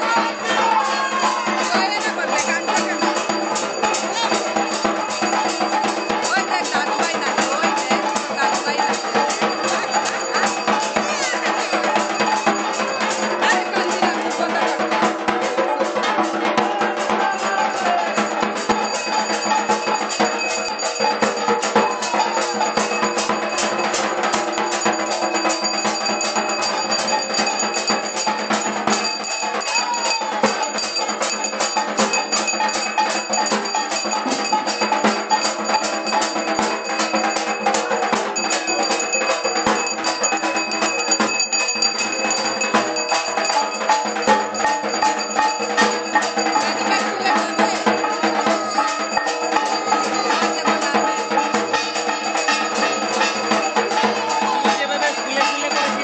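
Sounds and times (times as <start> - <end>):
drums beaten in fast rhythm: 0.0 - 56.0
metal bell ringing: 0.0 - 56.0.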